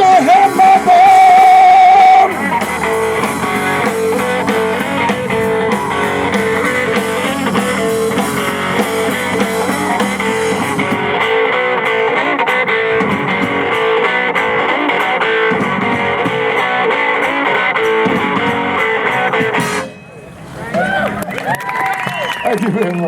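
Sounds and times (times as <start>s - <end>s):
blues band with lead guitar: 0.0s - 21.4s.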